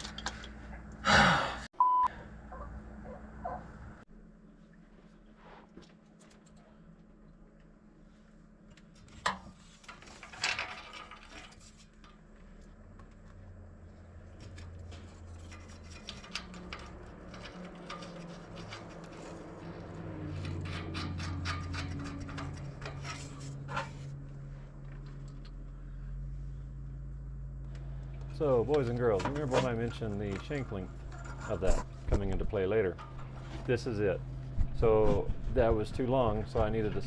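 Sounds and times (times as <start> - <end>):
low hum: 6.4 - 37.0.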